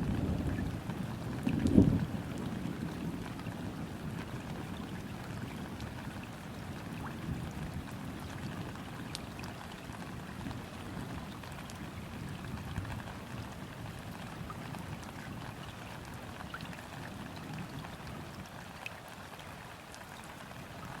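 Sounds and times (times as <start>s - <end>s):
rain falling on river: 0.0s - 21.0s.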